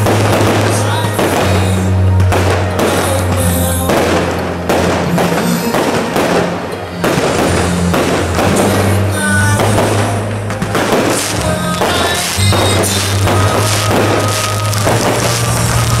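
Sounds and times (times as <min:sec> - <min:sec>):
fireworks bursting and crackling: 0:00.0 - 0:16.0
loud music with bass line: 0:00.0 - 0:16.0.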